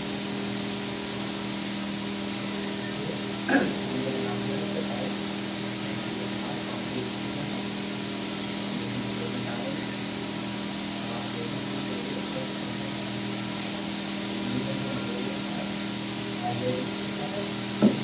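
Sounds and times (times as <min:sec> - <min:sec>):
electric motor humming: 0:00.0 - 0:18.0
hiss: 0:00.0 - 0:18.0.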